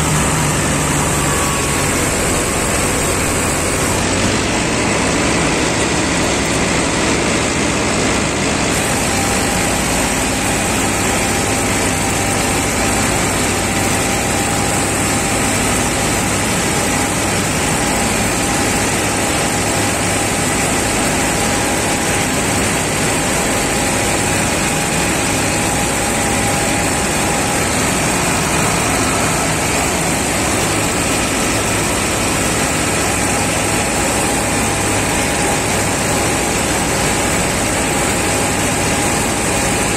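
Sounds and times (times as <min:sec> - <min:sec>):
high whine: 0:00.0 - 0:39.9
tractor diesel engine running: 0:00.0 - 0:39.9.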